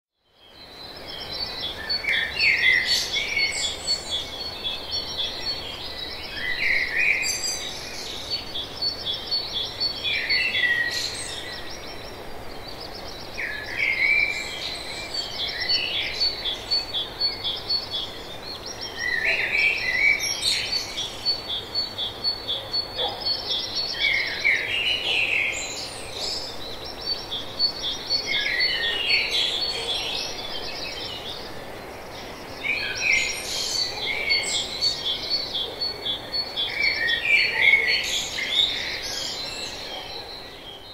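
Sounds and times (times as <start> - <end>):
forest birds calling and chirping: 0.1 - 40.9
steady background hiss: 0.4 - 40.9.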